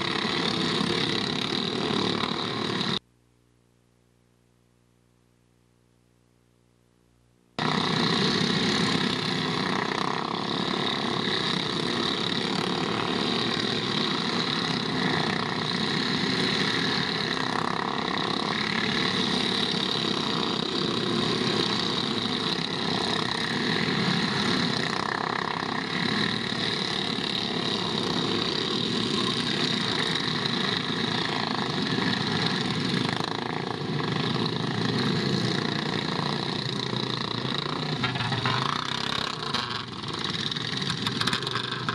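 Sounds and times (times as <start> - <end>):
go-kart engines running: 0.0 - 3.0, 7.6 - 41.9.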